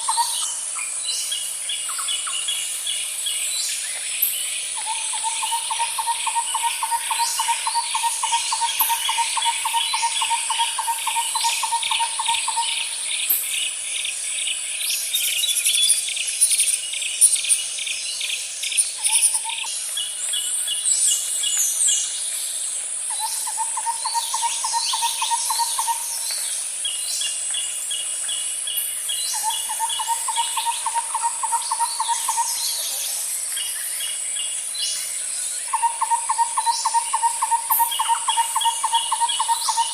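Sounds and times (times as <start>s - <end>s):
birds chirping and trilling: 0.0s - 22.3s, 23.1s - 39.9s
high-pitched insect drone: 0.0s - 39.9s.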